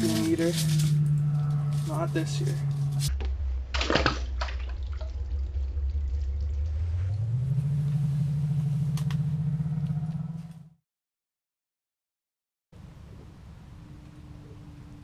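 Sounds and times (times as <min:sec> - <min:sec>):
low motor drone: 0:00.0 - 0:10.8, 0:12.8 - 0:15.0.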